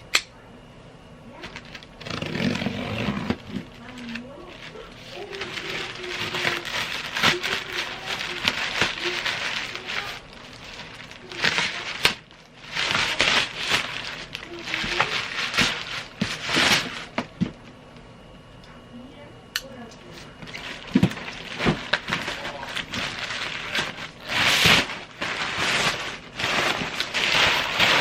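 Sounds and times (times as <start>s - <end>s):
crinkling plastic and cardboard: 1.4s - 17.6s, 20.0s - 28.0s.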